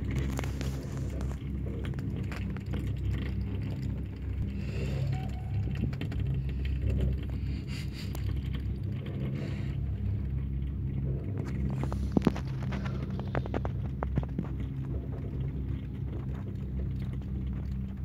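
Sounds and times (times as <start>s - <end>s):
chairlift low rumble: 0.0s - 18.0s
light ticks and rattles: 0.0s - 18.0s.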